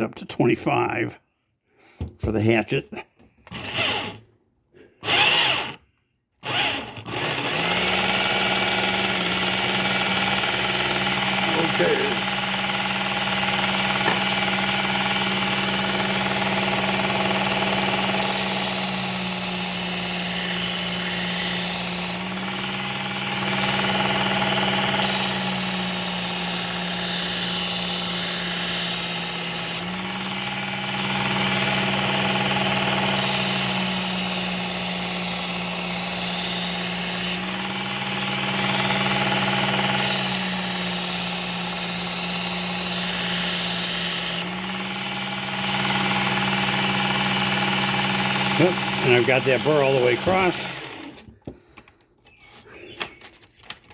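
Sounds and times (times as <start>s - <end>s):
belt sharpener grinding blade: 3.4s - 4.3s, 5.0s - 5.8s, 6.4s - 51.4s.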